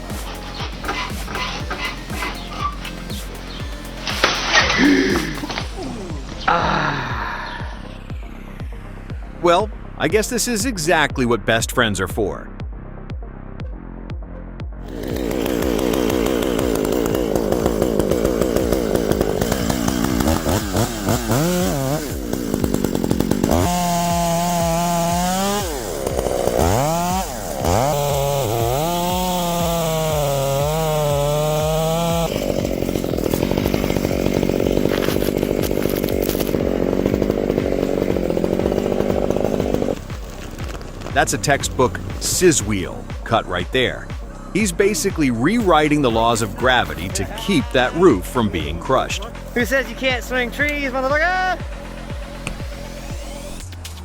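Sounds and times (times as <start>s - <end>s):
chainsaw engine revving: 0.0s - 11.1s, 14.8s - 54.0s.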